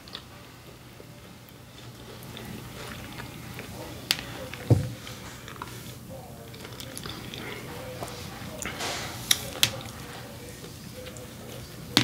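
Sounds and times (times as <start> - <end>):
faint chewing: 0.0 - 0.5, 1.4 - 12.0.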